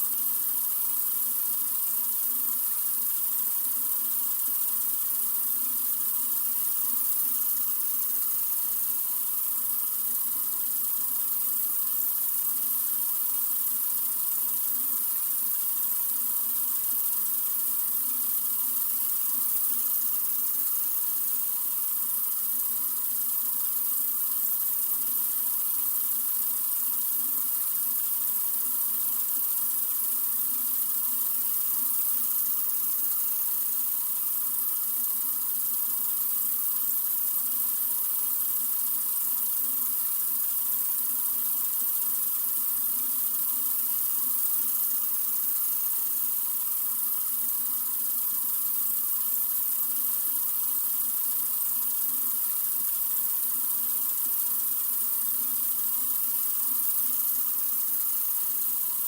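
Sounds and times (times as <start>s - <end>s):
water running from faucet: 0.0s - 59.0s.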